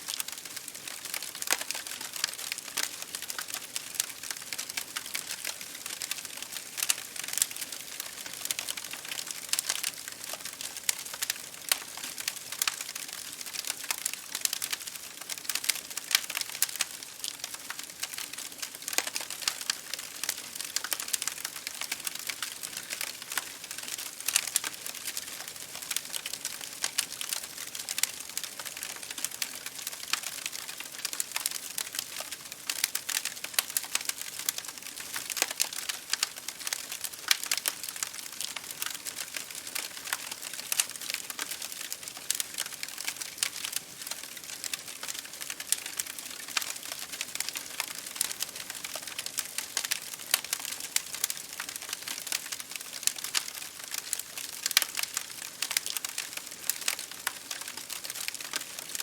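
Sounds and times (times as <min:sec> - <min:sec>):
rain pattering on window glass: 0:00.0 - 0:59.0
wood fire crackling: 0:00.1 - 0:59.0.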